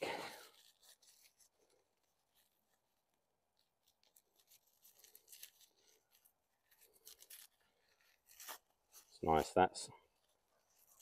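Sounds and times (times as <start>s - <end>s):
faint scratchy rustles: 0.1s - 11.0s.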